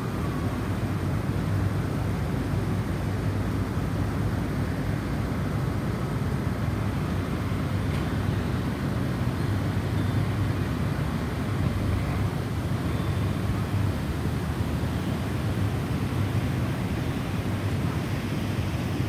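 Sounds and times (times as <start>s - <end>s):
snowstorm wind rumbling: 0.0s - 19.0s.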